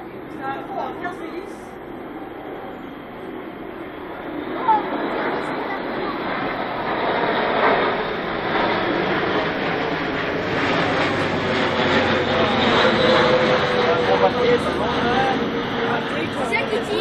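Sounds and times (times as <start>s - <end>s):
plane engines droning overhead: 0.0s - 17.0s.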